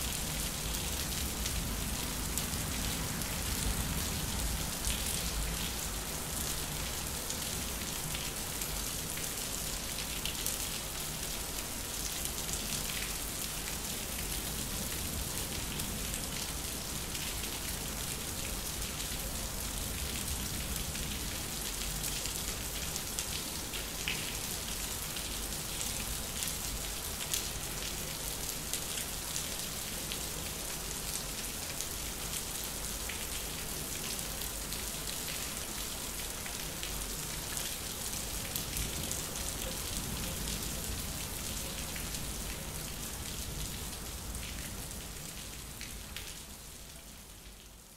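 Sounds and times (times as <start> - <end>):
rain falling on concrete: 0.0 - 47.9.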